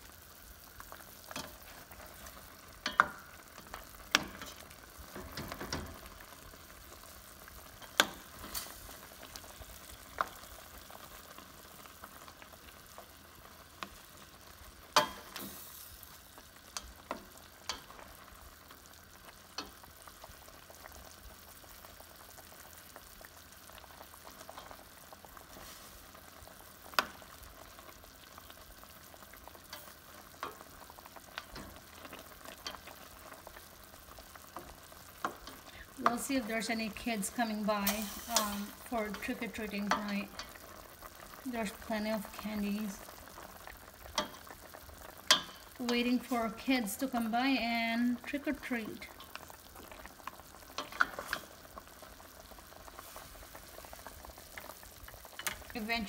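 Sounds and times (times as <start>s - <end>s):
sauce bubbling and sizzling in a pan: 0.0s - 56.0s.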